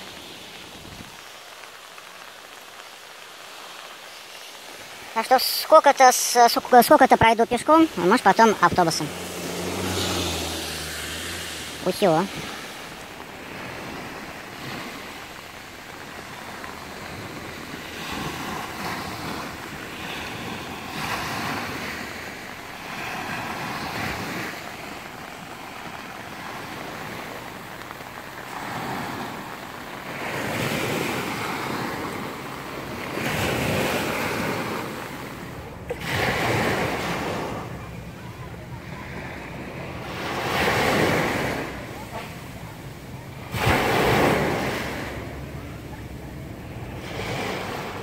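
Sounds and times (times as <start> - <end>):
waves breaking on sandy beach: 0.0 - 48.0.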